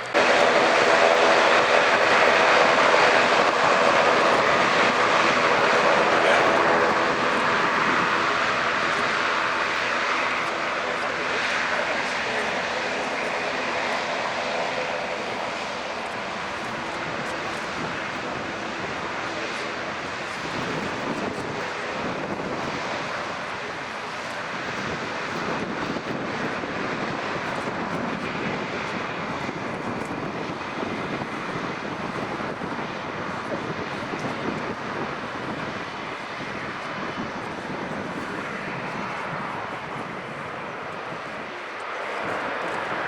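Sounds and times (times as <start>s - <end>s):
jet engines rushing: 0.0s - 43.0s.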